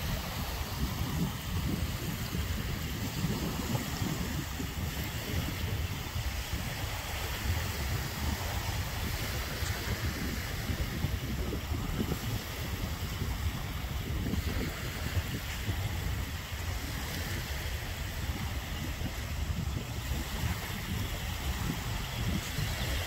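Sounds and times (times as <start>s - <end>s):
small waves washing onto beach: 0.0s - 23.0s
wind buffeting microphone: 0.0s - 23.0s.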